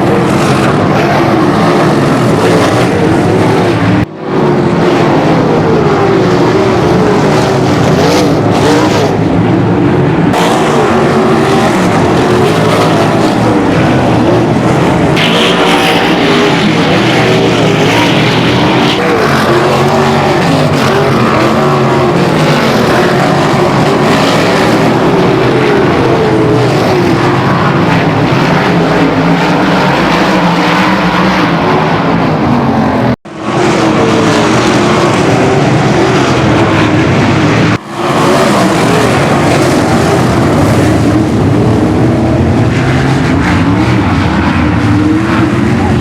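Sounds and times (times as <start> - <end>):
racing car engines running hard: 0.0 - 46.0.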